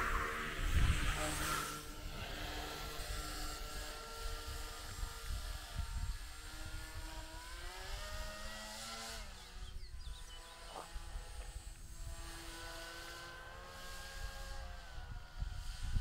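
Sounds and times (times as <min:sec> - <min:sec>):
propeller motor whining: 0:00.0 - 0:16.0
wind rumbling on microphone: 0:00.0 - 0:16.0.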